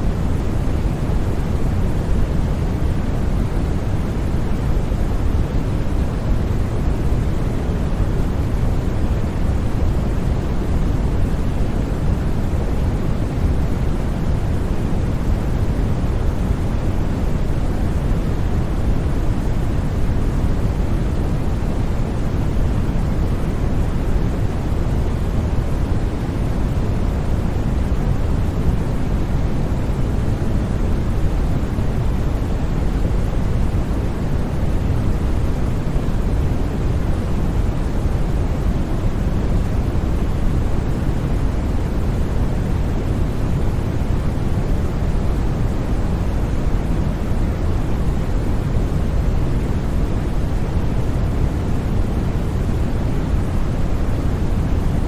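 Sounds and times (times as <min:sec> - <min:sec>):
white noise: 0:00.0 - 0:55.0.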